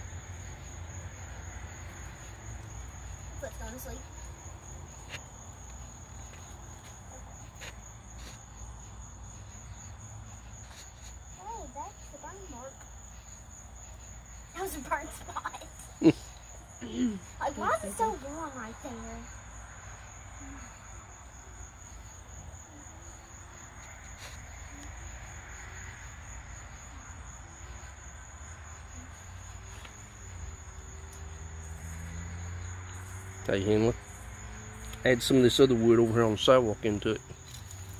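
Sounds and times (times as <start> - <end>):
crickets trilling: 0.0 - 37.9.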